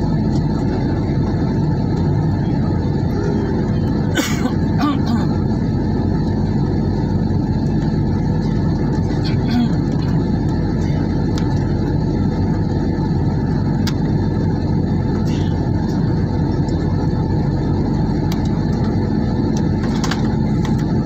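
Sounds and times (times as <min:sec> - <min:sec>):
jet airliner cabin rumble: 0:00.0 - 0:21.0.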